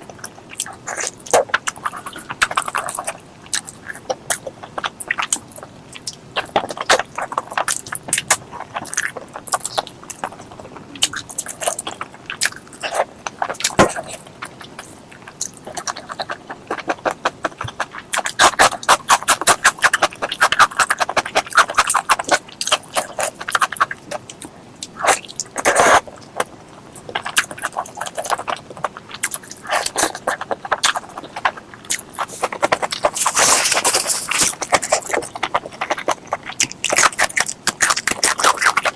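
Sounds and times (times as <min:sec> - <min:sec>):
wet chewing: 0:00.0 - 0:38.9.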